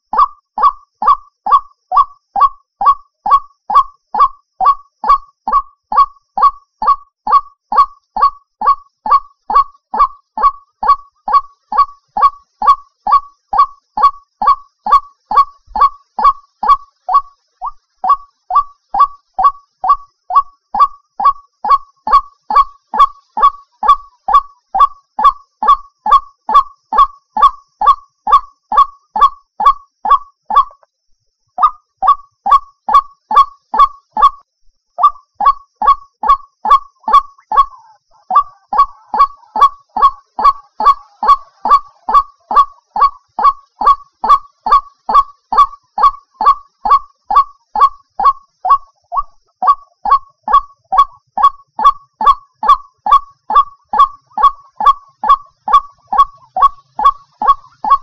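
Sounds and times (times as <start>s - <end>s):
waterhen honking calls: 0.0s - 30.8s, 35.0s - 58.0s.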